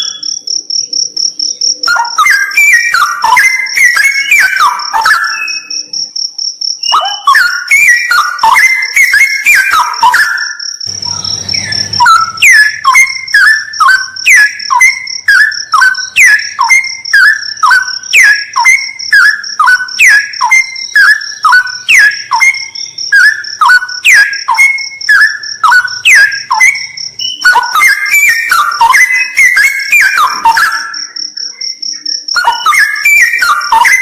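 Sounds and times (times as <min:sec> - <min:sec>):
bird singing whistled notes: 0:00.0 - 0:06.2, 0:06.8 - 0:34.0
high insect trill: 0:00.0 - 0:34.0.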